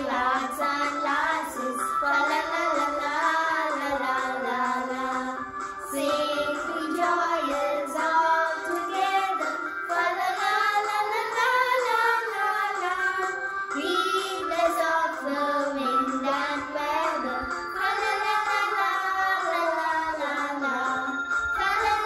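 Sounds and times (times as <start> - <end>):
woman and children singing carol: 0.0 - 22.0.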